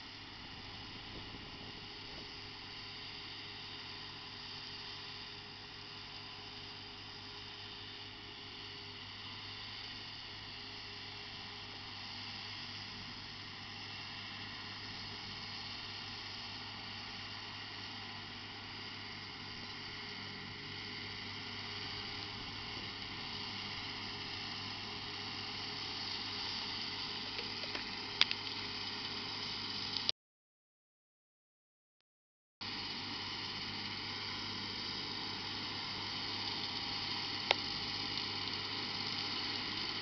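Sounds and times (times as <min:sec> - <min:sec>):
tractor engine drone: 0:00.0 - 0:30.1, 0:32.6 - 0:40.0.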